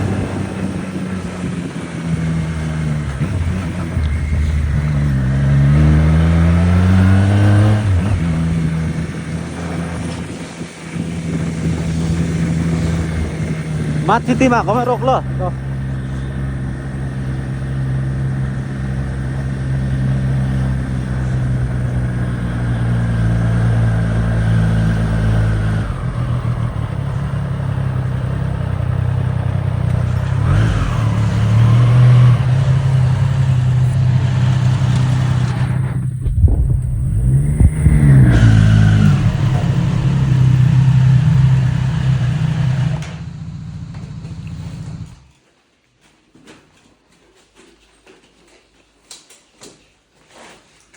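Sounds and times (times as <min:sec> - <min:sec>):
motorcycle engine running: 0:00.0 - 0:45.4.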